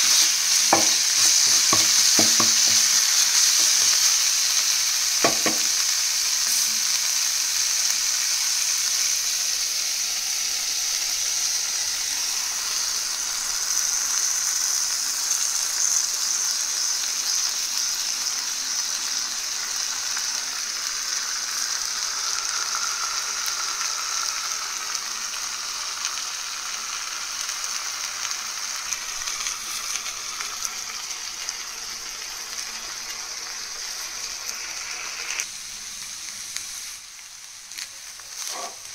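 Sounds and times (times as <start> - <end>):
eggs sizzling in oil: 0.0 - 38.9.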